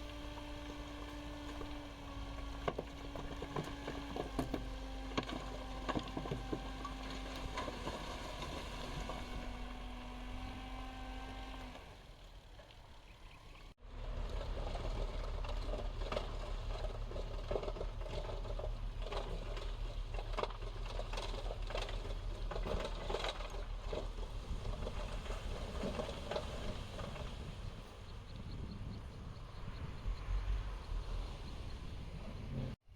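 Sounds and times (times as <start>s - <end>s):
gravel crackling and tumbling: 0.0s - 32.8s
diesel machinery droning: 0.0s - 32.9s.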